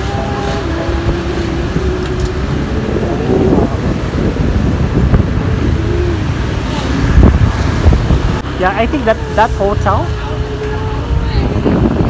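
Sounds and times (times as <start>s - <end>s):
vehicle road rumble: 0.0s - 12.0s
wind buffeting microphone: 0.0s - 12.0s.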